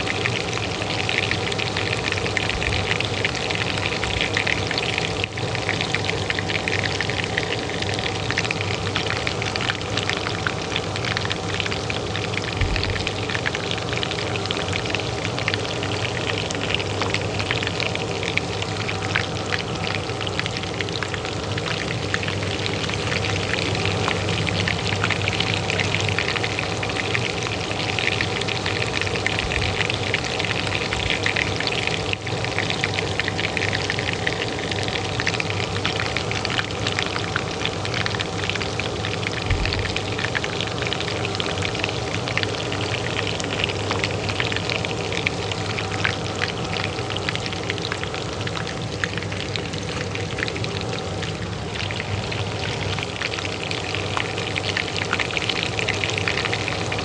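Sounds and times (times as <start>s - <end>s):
hot oil sizzling in a pan: 0.0s - 57.0s
range hood fan humming: 0.0s - 57.0s.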